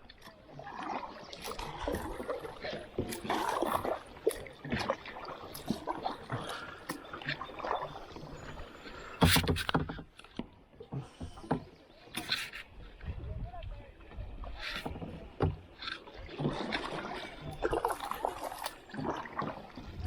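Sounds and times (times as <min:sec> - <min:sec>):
paddles splashing in water: 0:00.0 - 0:20.0.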